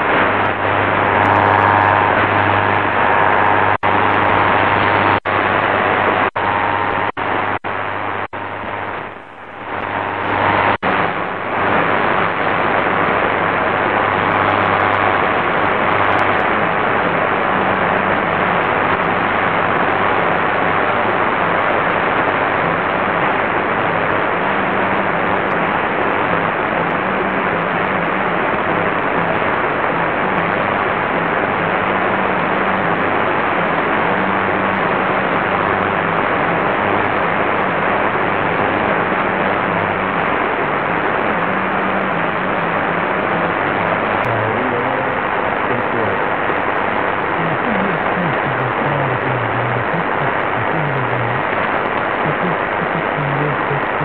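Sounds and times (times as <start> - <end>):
low hum: 0.0 - 18.7, 23.6 - 54.0
radio static hiss: 0.0 - 54.0.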